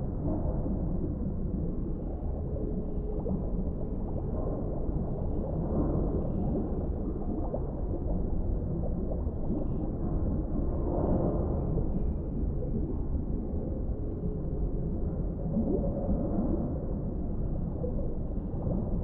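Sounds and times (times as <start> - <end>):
faint gurgles: 0.0 - 19.0
underwater low rumble: 0.0 - 19.0.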